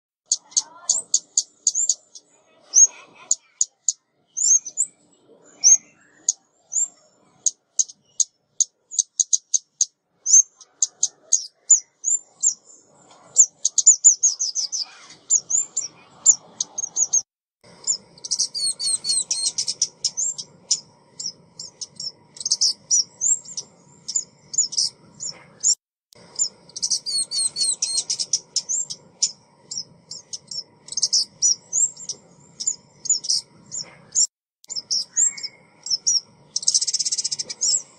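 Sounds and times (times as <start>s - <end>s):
songbird chirping and trilling: 0.2s - 37.9s.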